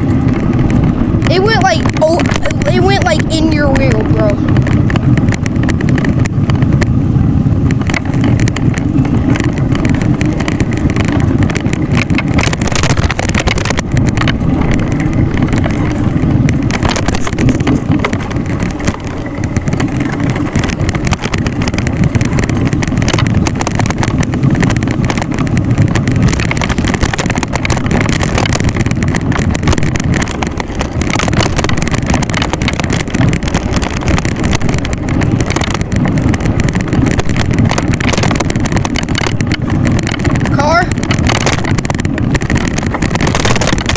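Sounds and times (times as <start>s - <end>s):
wind rumbling on microphone: 0.0s - 43.9s.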